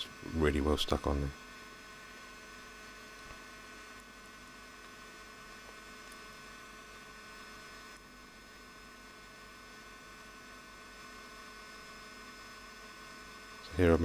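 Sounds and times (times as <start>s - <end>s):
electrical hum with steady tones: 0.0s - 14.0s.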